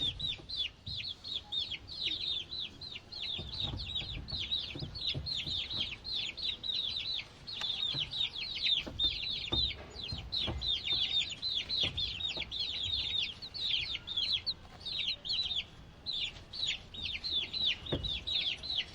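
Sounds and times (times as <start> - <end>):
baby chicks peeping: 0.0 - 18.9.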